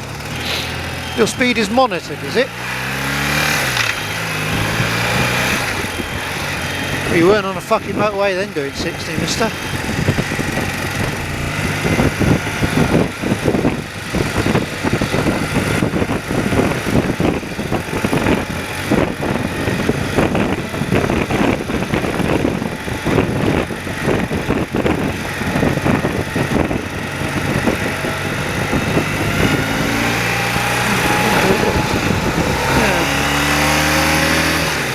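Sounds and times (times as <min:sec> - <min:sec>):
motorcycle engine running: 0:00.0 - 0:34.9
wind noise: 0:03.4 - 0:34.9.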